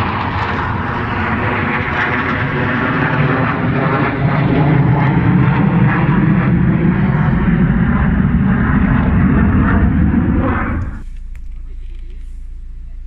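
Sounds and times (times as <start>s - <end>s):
military aircraft flying over: 0.0s - 13.0s.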